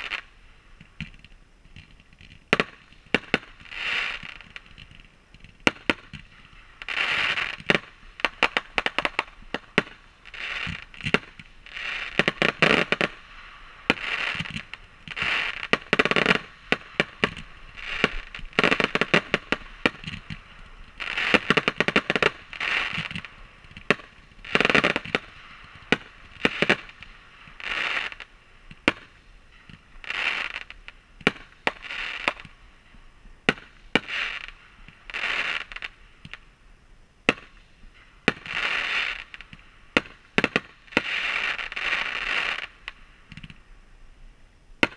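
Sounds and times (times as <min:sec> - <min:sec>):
fireworks hissing and cracking: 0:00.0 - 0:44.9.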